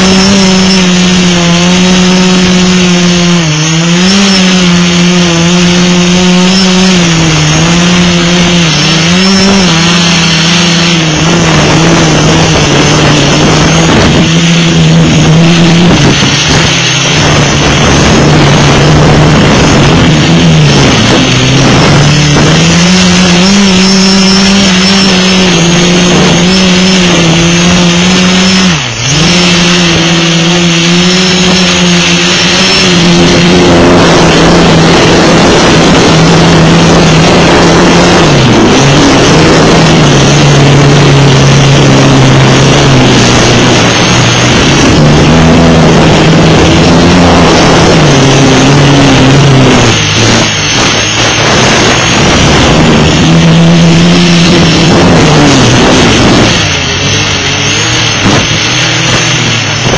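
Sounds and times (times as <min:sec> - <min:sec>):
drone motors and propellers droning: 0:00.0 - 0:59.9.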